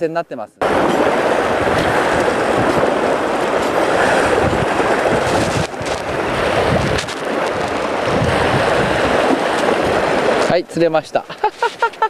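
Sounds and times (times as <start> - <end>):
waves washing against rocks: 0.6 - 12.0
wind buffeting microphone: 0.6 - 12.0.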